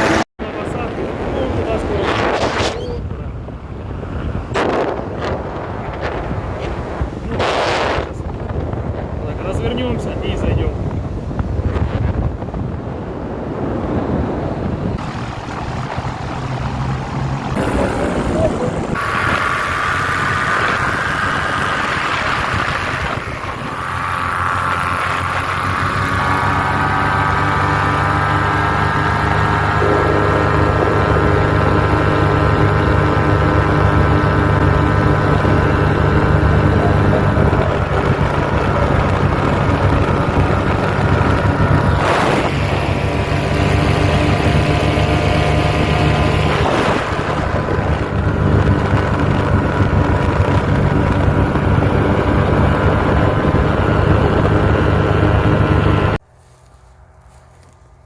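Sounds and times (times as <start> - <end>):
paramotor engine and propeller: 0.0 - 58.0.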